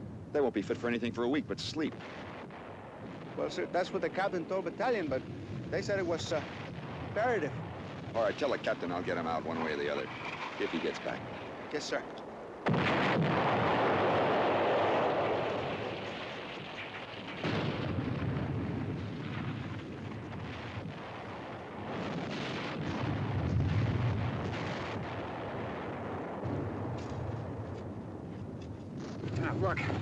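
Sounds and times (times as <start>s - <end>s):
artillery shell explosions: 1.7s - 28.2s, 28.8s - 30.0s.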